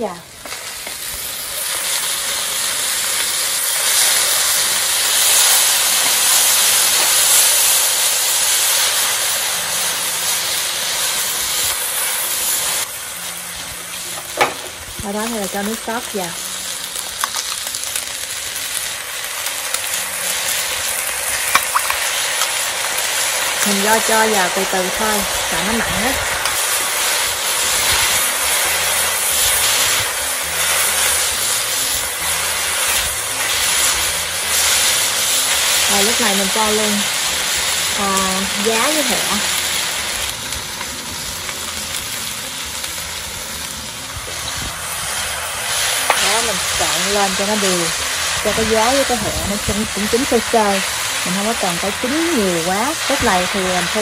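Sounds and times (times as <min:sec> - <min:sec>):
noodles sizzling in a wok: 0:00.0 - 0:54.0.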